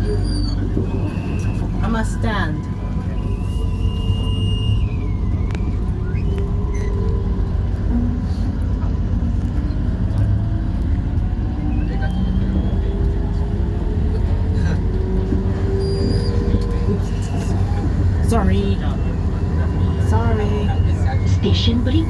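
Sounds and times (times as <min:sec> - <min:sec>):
train wheels rumbling: 0:00.0 - 0:22.0
traction motor whine rising: 0:02.7 - 0:22.0.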